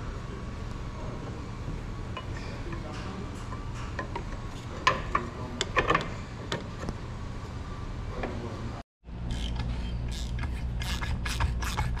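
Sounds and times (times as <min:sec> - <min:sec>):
low shop hum: 0:00.0 - 0:12.0.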